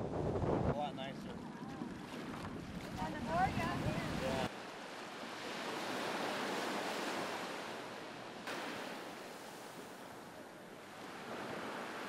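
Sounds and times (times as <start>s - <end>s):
heavy surf breaking waves: 0.7s - 12.0s.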